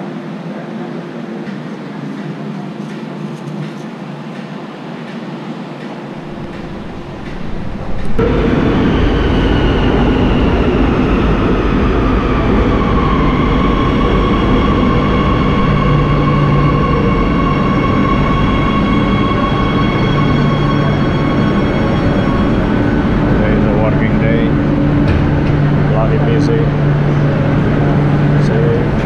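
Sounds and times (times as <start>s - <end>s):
metro train rumble: 0.0s - 29.0s
train high whine: 0.0s - 29.0s.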